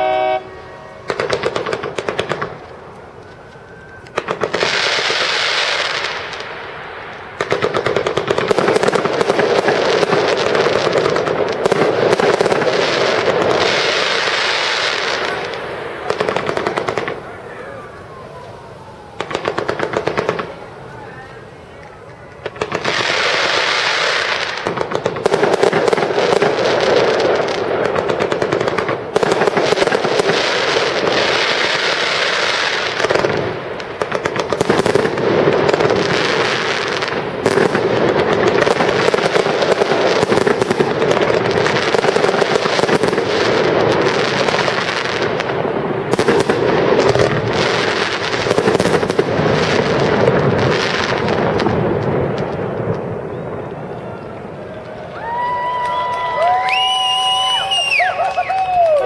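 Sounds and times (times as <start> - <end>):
firework shells bursting: 0.0 - 3.0, 4.0 - 53.8.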